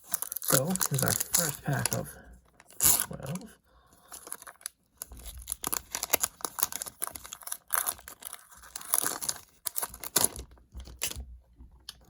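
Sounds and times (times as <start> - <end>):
wrapper tearing and crinkling: 0.0 - 3.5, 4.1 - 11.2.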